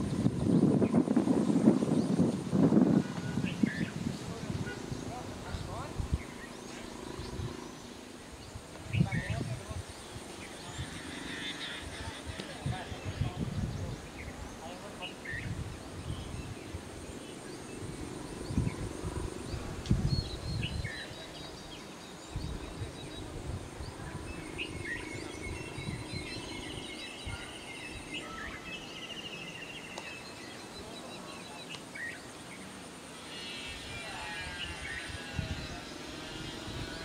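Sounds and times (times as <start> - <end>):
wind on microphone: 0.0 - 28.9, 33.7 - 37.0
birds chirping: 0.0 - 37.0
insect drone: 0.0 - 37.0.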